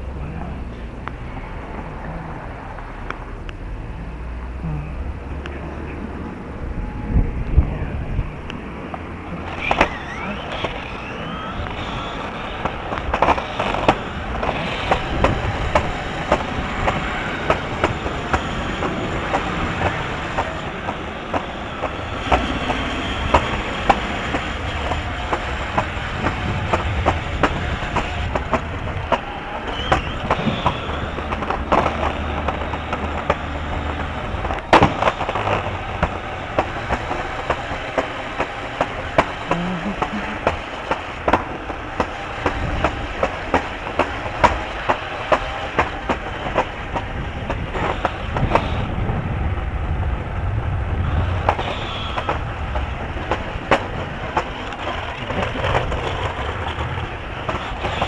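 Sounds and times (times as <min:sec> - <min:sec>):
steady rumbling: 0:00.0 - 0:58.0.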